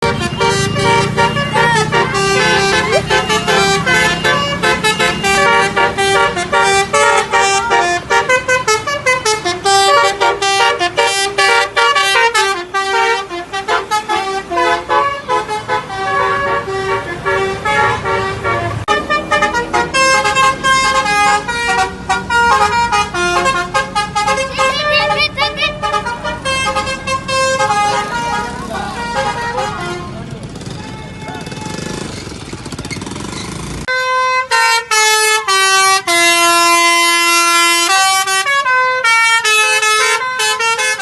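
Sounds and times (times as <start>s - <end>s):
musical air horn melody: 0.0s - 30.1s, 33.9s - 41.0s.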